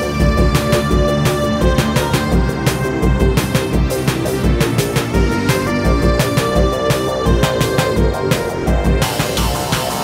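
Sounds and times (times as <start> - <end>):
electronic music with driving beat: 0.0 - 10.0.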